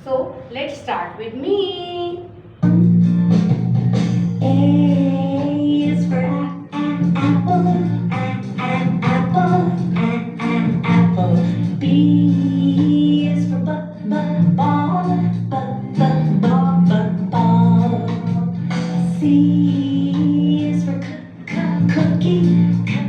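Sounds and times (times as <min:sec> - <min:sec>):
instrumental accompaniment: 0:02.3 - 0:23.0.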